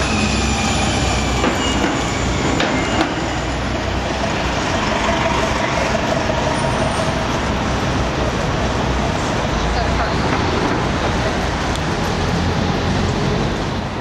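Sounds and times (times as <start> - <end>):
bus driving past: 0.0 - 14.0
city street traffic: 0.0 - 14.0.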